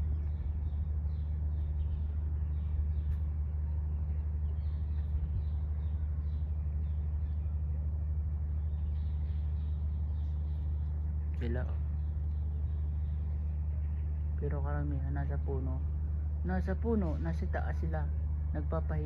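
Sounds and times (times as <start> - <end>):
distant traffic rumble: 0.0 - 19.0
small birds chirping: 0.0 - 19.0.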